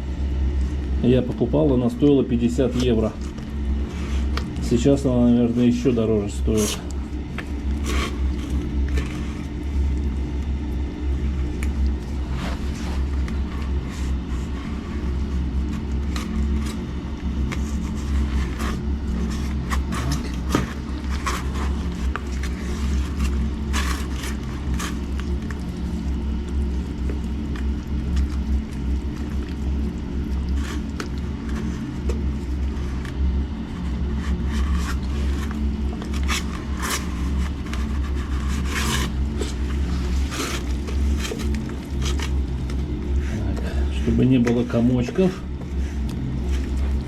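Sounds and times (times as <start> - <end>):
low machine hum: 0.0 - 47.0
slurry being stirred: 0.0 - 47.0
mixing tool scraping: 0.7 - 47.0.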